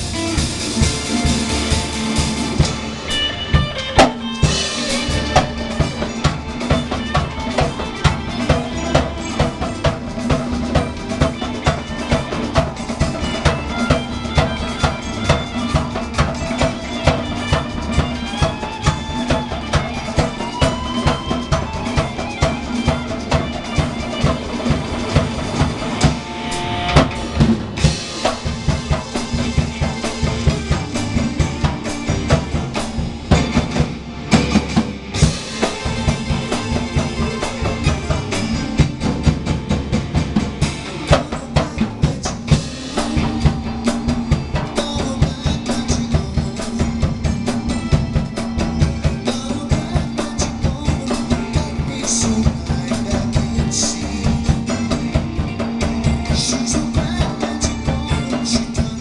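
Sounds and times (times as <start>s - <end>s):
backing music with bending notes: 0.0s - 59.0s
drum kit groove: 0.0s - 59.0s.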